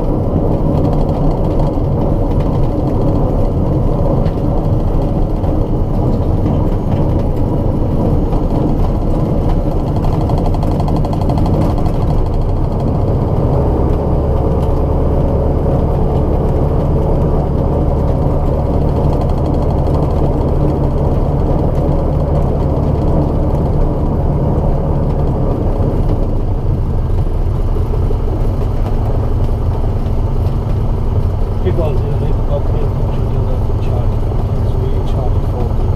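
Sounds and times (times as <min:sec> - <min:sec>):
aircraft engine and propeller: 0:00.0 - 0:35.9
metal grinding and vibration: 0:00.0 - 0:35.9.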